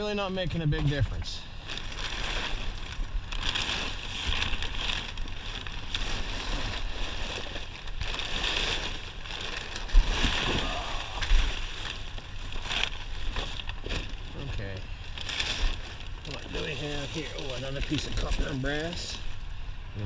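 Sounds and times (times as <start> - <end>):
scrap rustling and scraping: 0.8 - 19.2.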